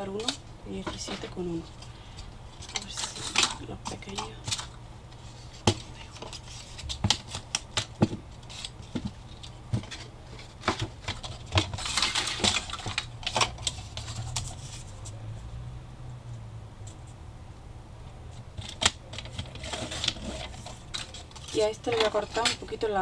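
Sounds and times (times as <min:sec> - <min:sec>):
paper rustling: 0:00.1 - 0:15.2, 0:18.3 - 0:23.0.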